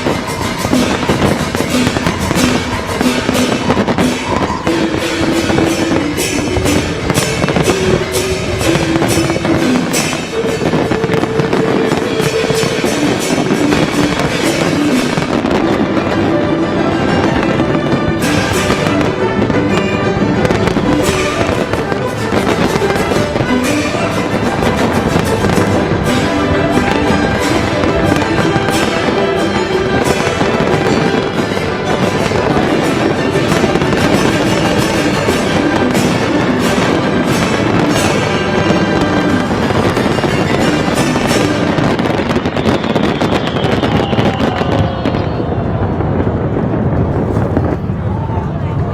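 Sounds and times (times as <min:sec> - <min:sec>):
festive show music: 0:00.0 - 0:45.6, 0:46.8 - 0:48.9
fireworks bursting and crackling: 0:00.0 - 0:48.9
sharp fireworks bangs: 0:00.0 - 0:48.9.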